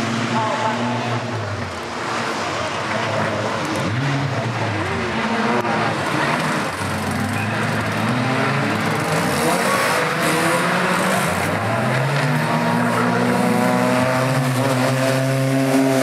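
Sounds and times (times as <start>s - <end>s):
racing car engines revving: 0.0s - 16.0s.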